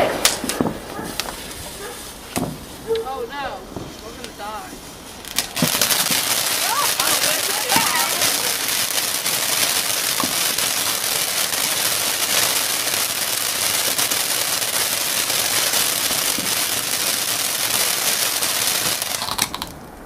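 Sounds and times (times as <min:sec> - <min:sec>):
firework hissing and crackling: 0:00.0 - 0:20.0.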